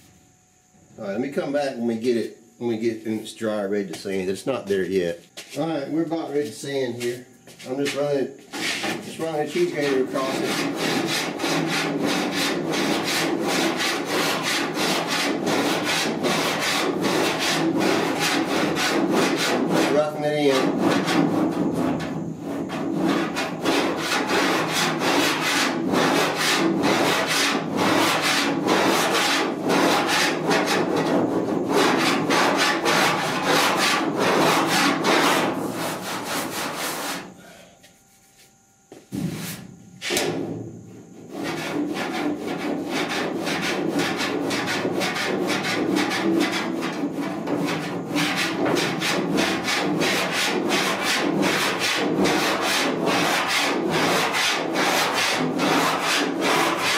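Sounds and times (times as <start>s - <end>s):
rasp scraping body filler: 6.4s - 37.4s, 39.2s - 56.9s.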